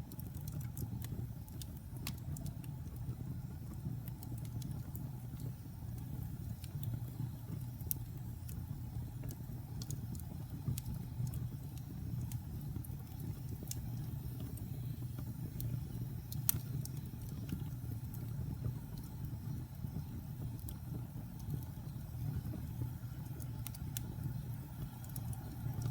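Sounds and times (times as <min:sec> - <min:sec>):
fire crackling and popping: 0:00.0 - 0:25.9
fire flames rumbling: 0:00.0 - 0:25.9.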